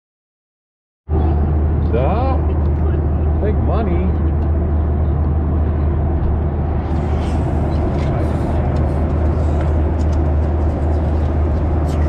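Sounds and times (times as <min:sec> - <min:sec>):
airliner cabin drone: 0:01.1 - 0:12.0.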